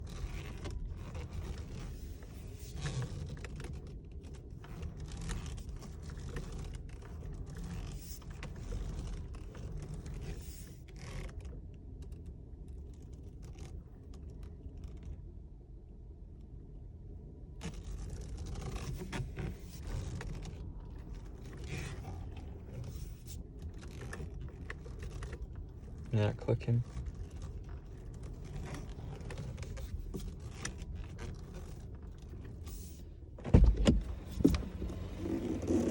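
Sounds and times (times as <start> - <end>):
steering wheel clicking and creaking: 0.0 - 15.2, 17.6 - 35.9
steady low hum: 0.0 - 35.9.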